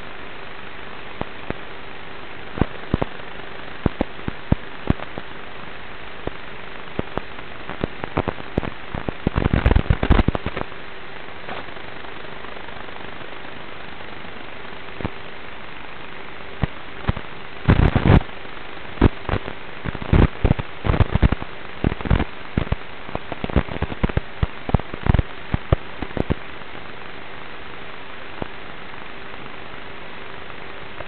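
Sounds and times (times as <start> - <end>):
faint hum: 0.0 - 31.0
static hiss: 0.0 - 31.0
crackles and pops: 1.0 - 31.0.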